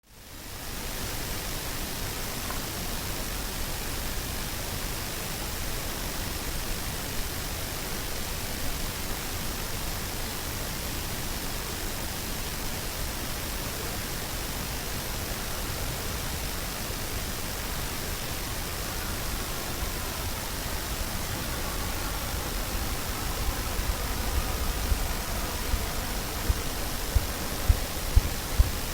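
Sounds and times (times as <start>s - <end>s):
steady outdoor hiss: 0.0s - 28.9s.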